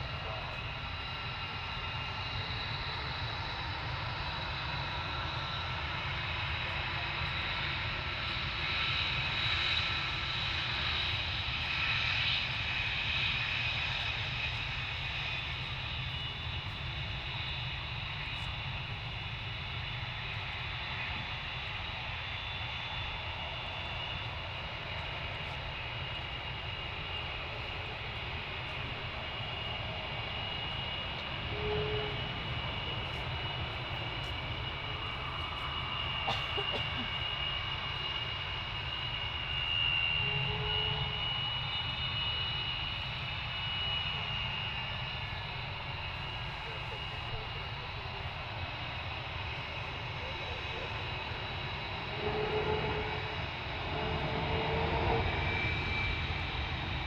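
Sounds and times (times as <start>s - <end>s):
jet aircraft engines whining: 0.0s - 57.0s.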